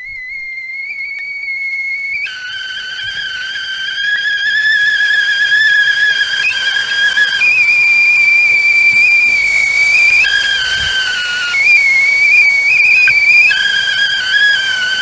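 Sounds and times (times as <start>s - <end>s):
tea kettle whistling: 0.0s - 15.0s.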